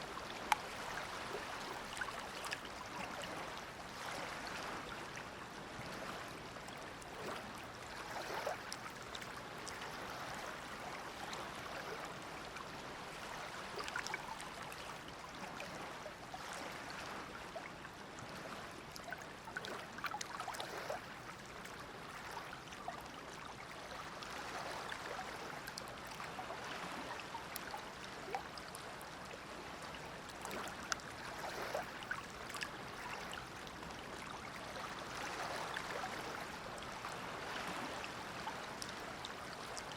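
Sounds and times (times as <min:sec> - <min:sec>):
small splashes and drips: 0:00.0 - 0:39.9
water lapping at the shore: 0:00.0 - 0:39.9.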